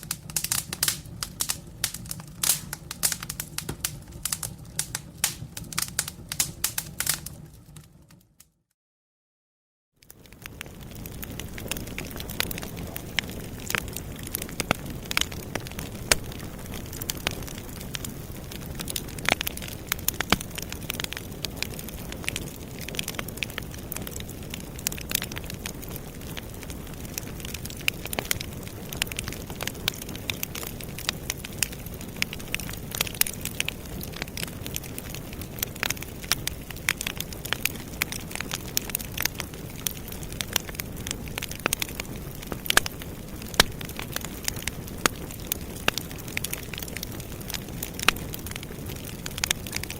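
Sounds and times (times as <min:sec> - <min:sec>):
campfire crackling and popping: 0:00.0 - 0:08.4, 0:10.0 - 0:49.9
low rumble of flame: 0:00.0 - 0:08.5, 0:10.0 - 0:49.9.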